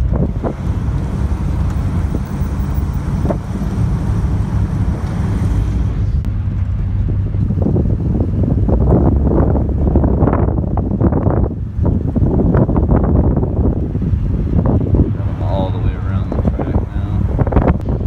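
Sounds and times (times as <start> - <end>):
car engine rumbling: 0.0 - 18.0
wind rushing over microphone: 0.0 - 18.0.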